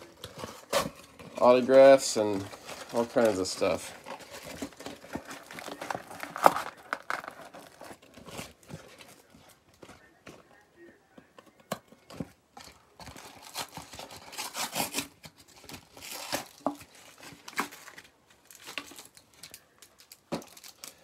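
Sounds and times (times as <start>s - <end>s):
packaging torn and crinkled: 0.0s - 8.6s, 12.6s - 21.0s.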